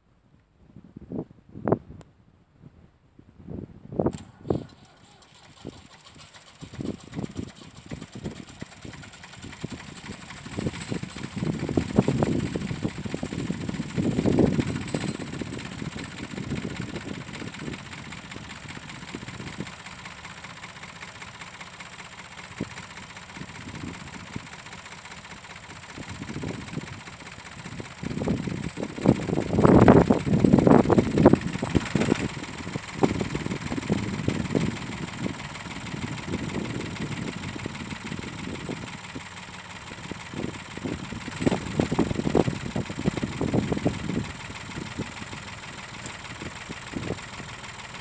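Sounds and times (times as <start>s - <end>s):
tractor engine running: 4.0s - 48.0s.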